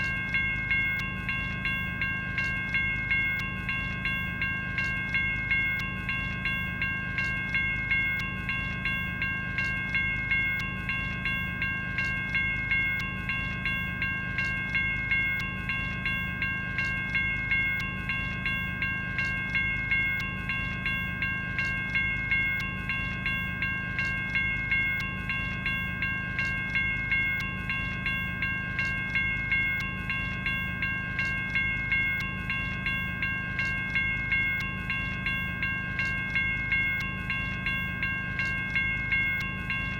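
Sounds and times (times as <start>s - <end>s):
electronic railroad crossing bell: 0.0s - 39.9s.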